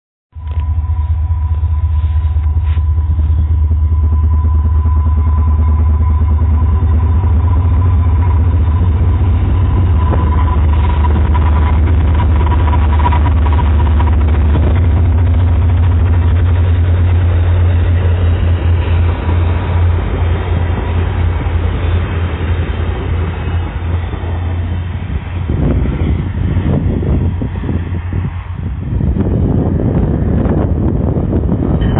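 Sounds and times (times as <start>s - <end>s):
passenger train rumbling past: 0.4s - 31.9s.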